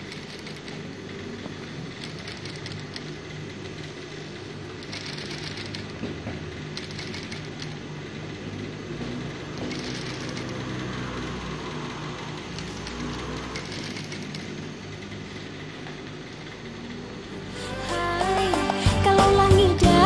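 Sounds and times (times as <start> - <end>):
sewing machine stitching: 0.0 - 17.2
motor hum: 0.0 - 20.0.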